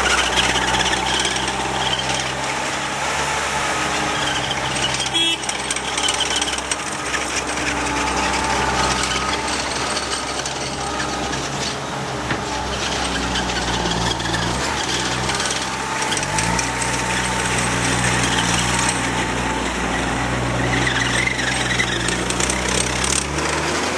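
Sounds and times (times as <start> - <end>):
diesel engine running: 0.0 - 23.9
metallic rattle and clatter: 4.2 - 23.9.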